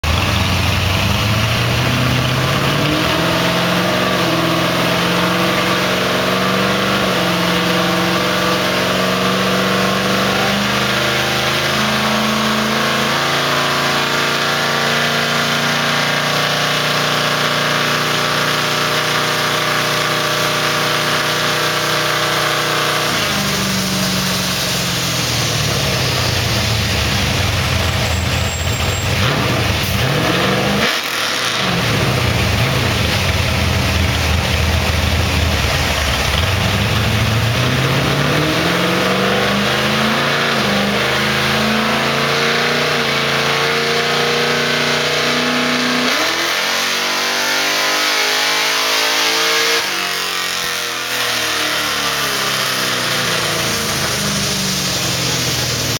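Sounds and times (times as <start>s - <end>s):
car engine revving on a dynamometer: 0.0s - 55.9s.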